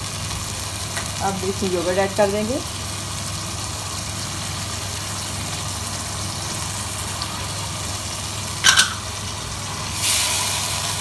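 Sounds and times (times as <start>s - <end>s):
food sizzling in wok: 0.0s - 11.0s.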